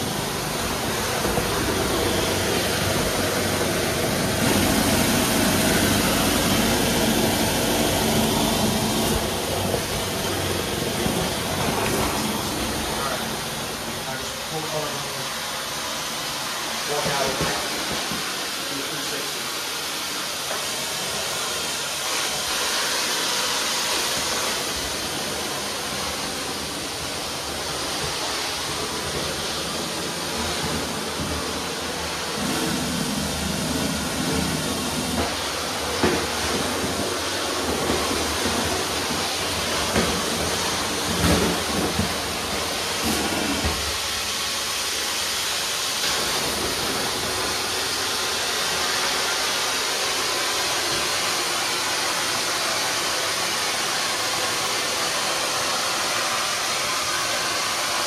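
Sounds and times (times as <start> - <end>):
cleaning machine hissing: 0.0 - 58.0.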